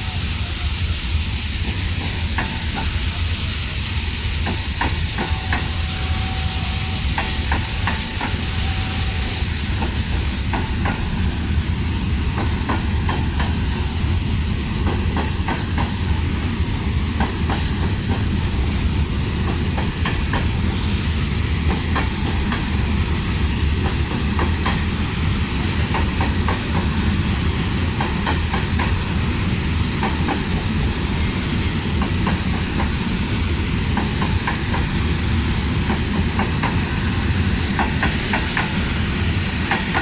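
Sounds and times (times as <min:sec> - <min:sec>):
railway wagons rumbling: 0:00.0 - 0:40.0.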